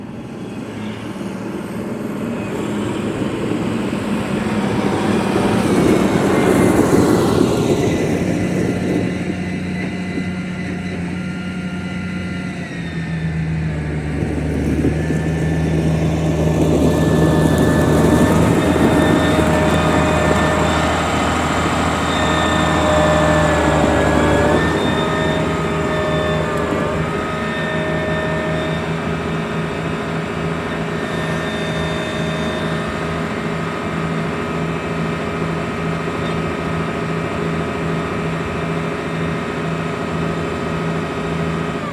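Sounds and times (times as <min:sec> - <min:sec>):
high thin whine: 0:00.0 - 0:41.9
tractor diesel engine running: 0:00.0 - 0:41.9.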